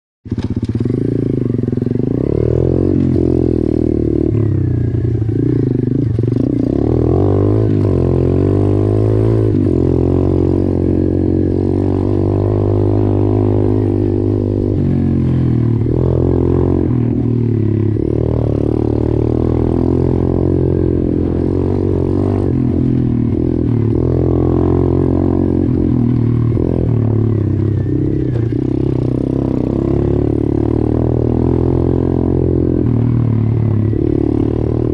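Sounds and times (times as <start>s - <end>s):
motorbike engine revving: 0.3s - 34.9s.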